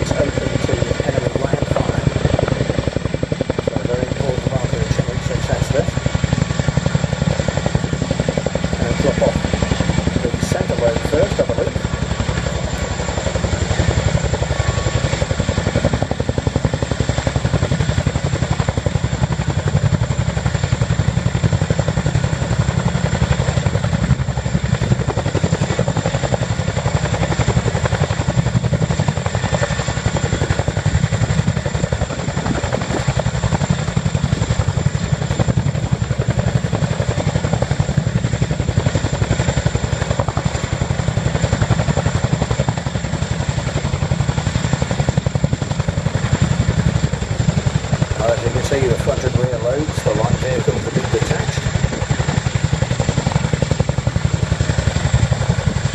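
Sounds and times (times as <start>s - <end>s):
helicopter rotor beat: 0.0s - 55.9s.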